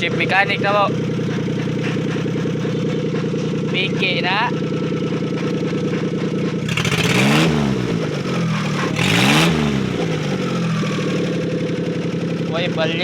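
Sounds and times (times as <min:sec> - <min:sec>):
engine idling and revving: 0:00.0 - 0:13.0.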